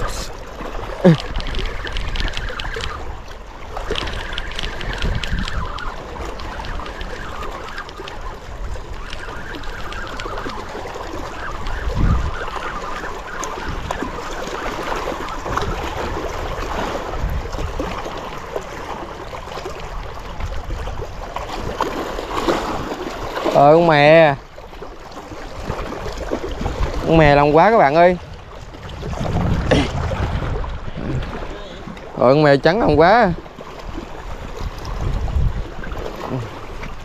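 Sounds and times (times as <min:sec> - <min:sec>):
lake water lapping at shore: 0:00.0 - 0:37.0
wind buffeting microphone: 0:00.0 - 0:37.0.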